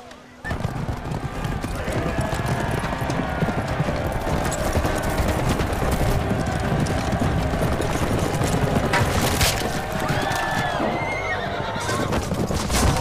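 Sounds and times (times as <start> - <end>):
crowd shouting and cheering: 0.0 - 13.0
horses hooves galloping: 0.4 - 13.0.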